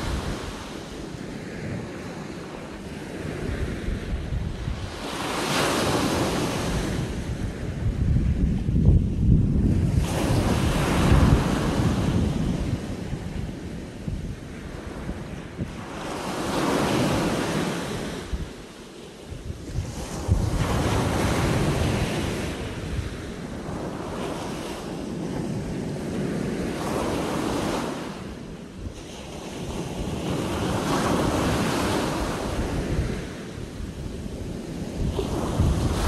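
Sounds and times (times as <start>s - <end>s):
surf breaking on beach: 0.0s - 13.3s, 19.7s - 36.0s
wind buffeting microphone: 0.0s - 36.0s.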